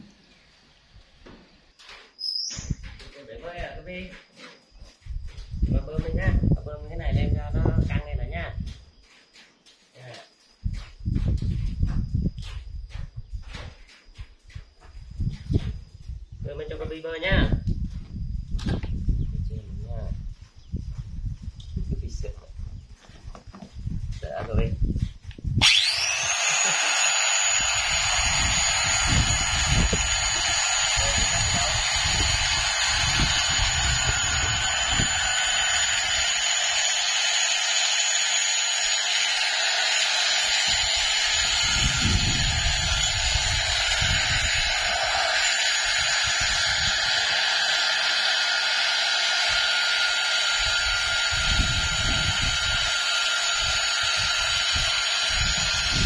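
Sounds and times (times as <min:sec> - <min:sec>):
electric air pump running: 0:01.6 - 0:17.9, 0:23.1 - 0:56.0.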